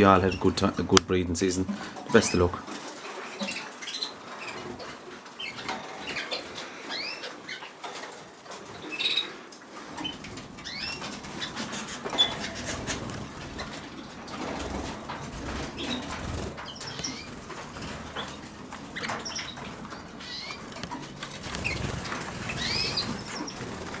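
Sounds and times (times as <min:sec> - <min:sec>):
canaries chirping: 0:00.0 - 0:24.0
wings fluttering: 0:00.0 - 0:24.0.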